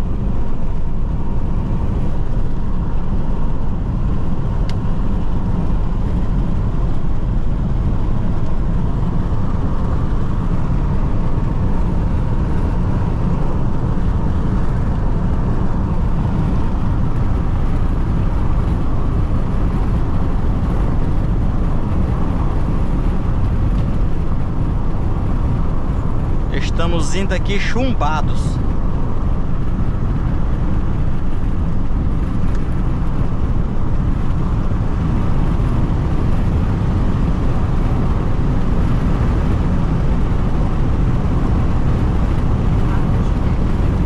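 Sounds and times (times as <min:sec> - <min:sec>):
car driving at high speed: 0:00.0 - 0:44.0
tyres rumbling on asphalt: 0:00.0 - 0:44.0.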